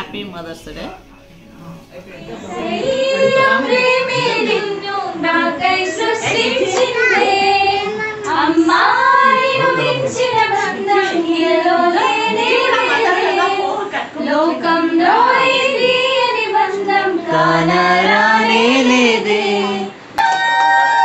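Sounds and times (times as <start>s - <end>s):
girls and women singing: 2.1s - 20.1s.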